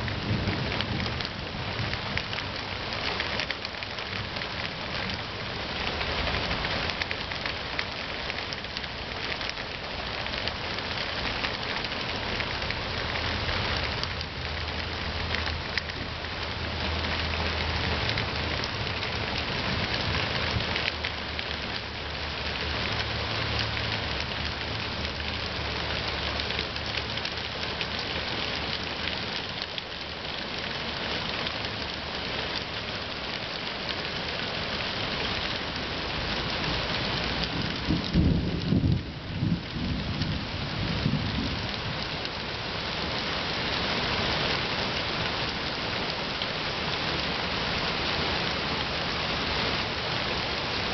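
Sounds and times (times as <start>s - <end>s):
heavy rain pouring through trees: 0.0s - 50.9s.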